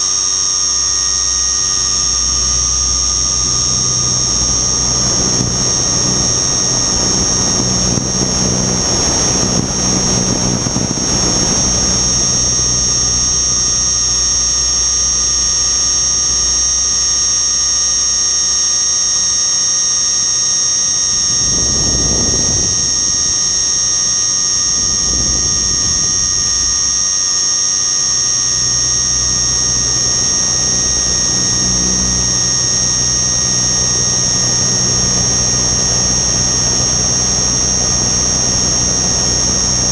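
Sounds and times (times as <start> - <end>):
helicopter high-pitched whine: 0.0 - 39.9
rotor droning hum: 0.0 - 39.9
rushing noise: 1.1 - 17.2, 21.1 - 39.9.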